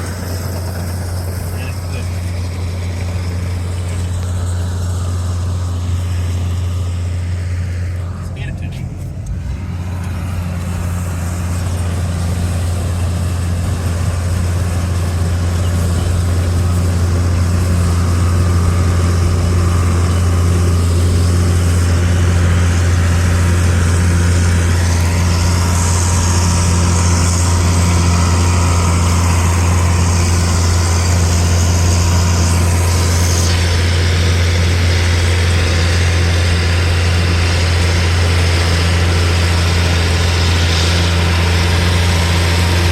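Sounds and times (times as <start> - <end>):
hay baler machinery noise: 0.0 - 42.9
tractor engine running: 0.0 - 42.9.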